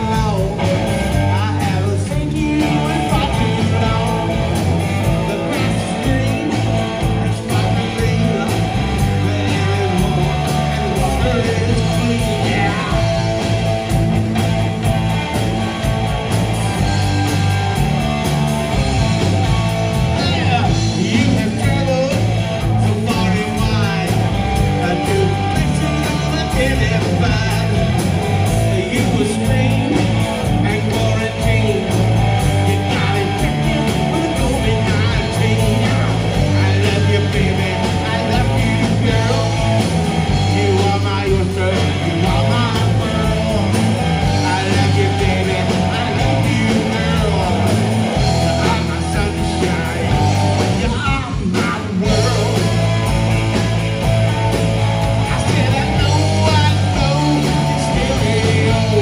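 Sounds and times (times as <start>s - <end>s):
man singing: 0.0s - 14.4s, 16.6s - 53.8s, 55.0s - 59.0s
drum kit beat: 0.0s - 59.0s
electric guitars: 0.0s - 59.0s.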